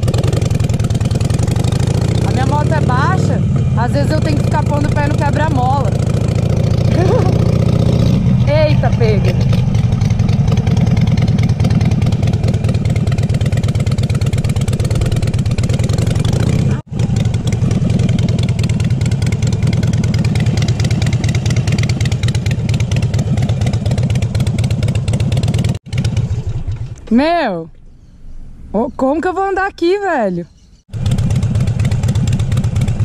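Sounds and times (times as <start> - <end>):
motorcycle engine running: 0.0 - 27.4, 30.8 - 33.0.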